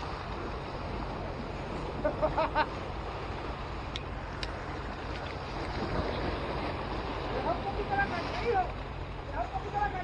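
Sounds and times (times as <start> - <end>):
sea washing against concrete: 0.0 - 10.0
wind rumbling on microphone: 0.0 - 10.0.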